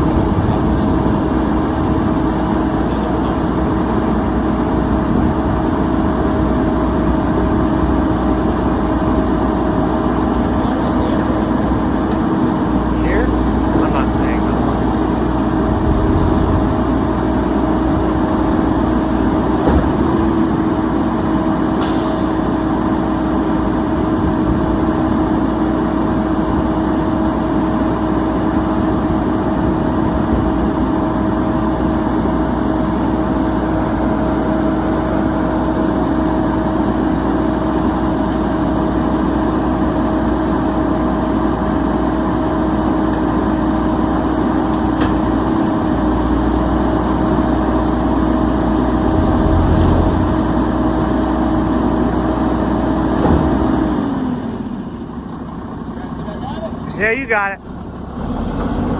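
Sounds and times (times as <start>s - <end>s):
garbage truck diesel engine running: 0.0s - 58.9s.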